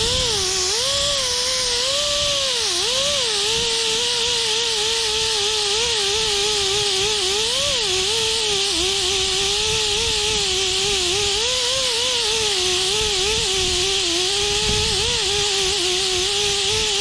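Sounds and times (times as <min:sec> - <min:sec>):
disc grinding paint off metal: 0:00.0 - 0:17.0
power tool motor whine: 0:00.0 - 0:17.0.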